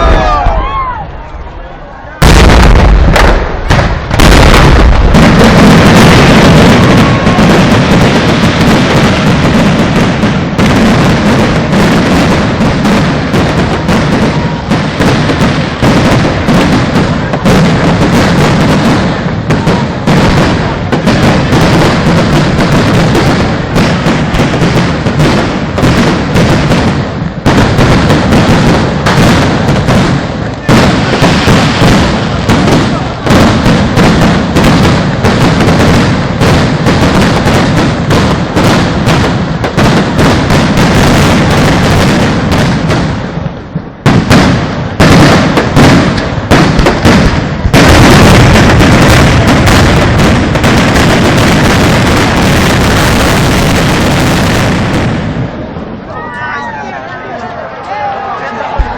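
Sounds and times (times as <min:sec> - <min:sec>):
fireworks cracks and bangs: 0:00.0 - 0:58.9
heavy firework boom: 0:02.2 - 0:56.1.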